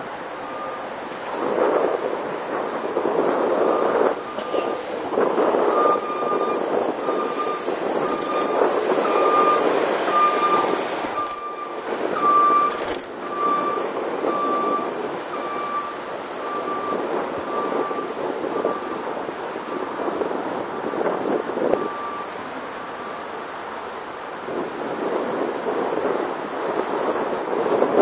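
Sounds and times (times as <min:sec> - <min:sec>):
wind on microphone: 0:00.9 - 0:28.0.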